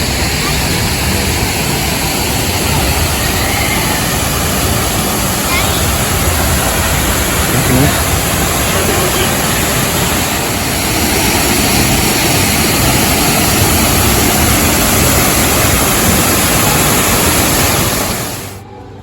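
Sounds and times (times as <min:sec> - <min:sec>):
loud steady rushing noise: 0:00.0 - 0:19.0.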